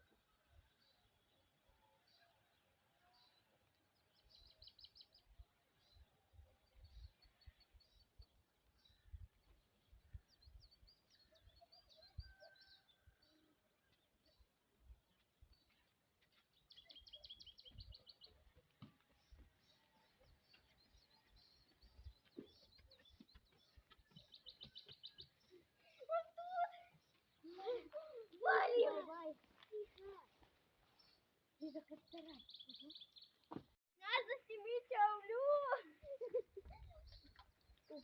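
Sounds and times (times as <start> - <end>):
small birds chirping: 0.0 - 35.1, 35.7 - 38.0.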